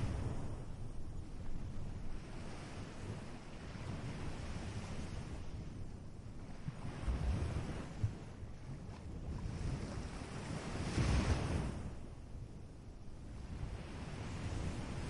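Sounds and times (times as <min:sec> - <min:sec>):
surf washing on beach: 0:00.0 - 0:05.7, 0:06.4 - 0:12.2, 0:13.2 - 0:15.0.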